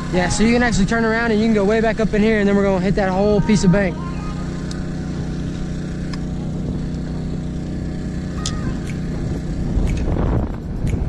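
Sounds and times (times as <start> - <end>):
generators humming: 0.0 - 11.0.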